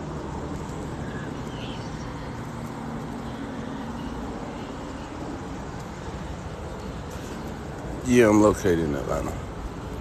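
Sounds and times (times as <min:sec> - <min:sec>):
outdoor background rumble: 0:00.0 - 0:10.0.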